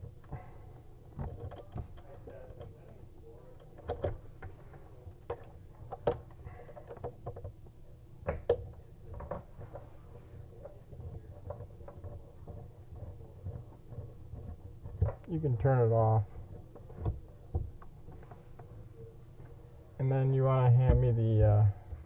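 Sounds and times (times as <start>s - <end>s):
light clicks and knocks: 0.0s - 9.9s, 10.5s - 19.6s
low steady hum: 0.0s - 22.0s.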